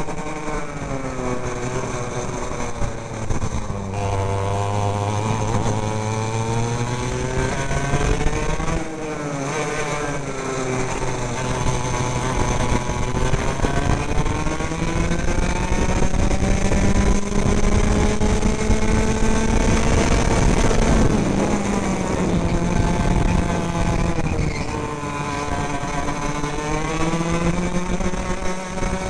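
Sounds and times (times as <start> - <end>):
racing kart engine: 0.0 - 29.0.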